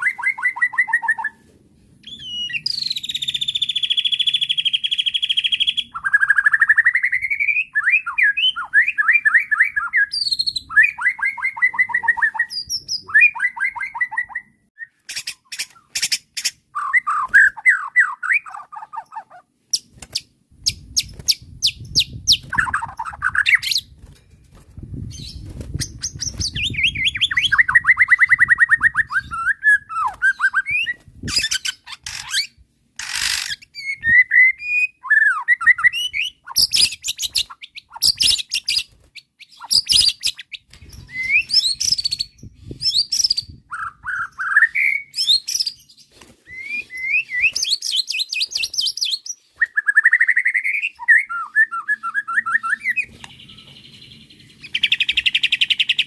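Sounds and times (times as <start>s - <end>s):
bird song with trills and whistles: 0.0s - 24.2s, 25.0s - 56.0s.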